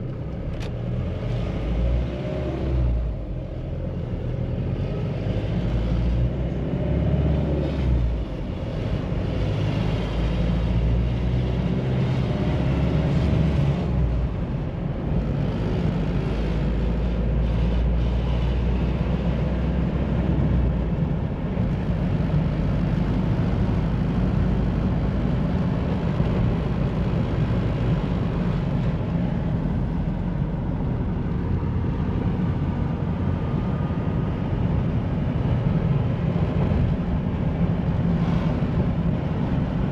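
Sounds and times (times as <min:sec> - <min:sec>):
diesel engine rumble: 0:00.0 - 0:39.9
road noise: 0:00.0 - 0:39.9.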